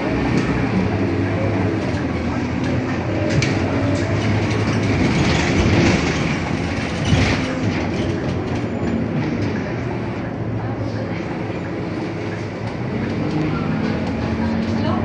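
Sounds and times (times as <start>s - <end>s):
bus body rattles and clicks: 0.0s - 15.0s
bus diesel engine droning: 0.0s - 15.0s
road rumble: 0.0s - 15.0s.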